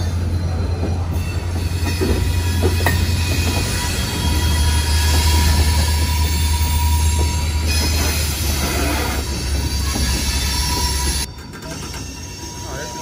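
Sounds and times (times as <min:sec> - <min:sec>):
faint wheel squeal: 0:00.0 - 0:13.0
train wheels rolling on rail: 0:00.0 - 0:13.0.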